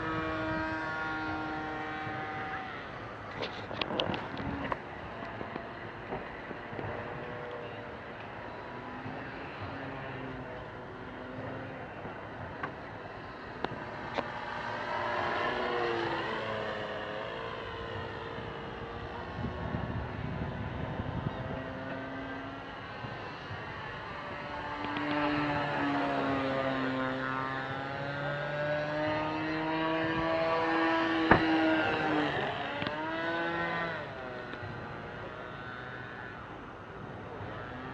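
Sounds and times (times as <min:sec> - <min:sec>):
model aeroplane engine drone: 0:00.0 - 0:37.9.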